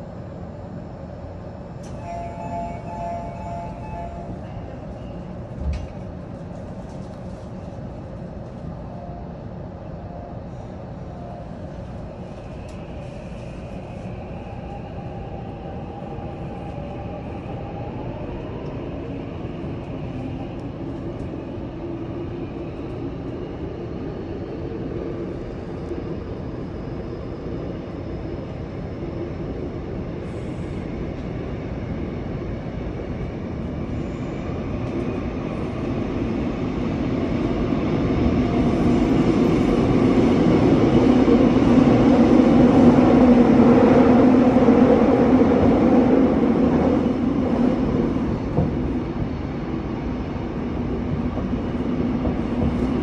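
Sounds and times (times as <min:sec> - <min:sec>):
faint train whine: 0:00.0 - 0:53.0
train wheels rumbling on rail: 0:00.7 - 0:08.9, 0:10.5 - 0:53.0.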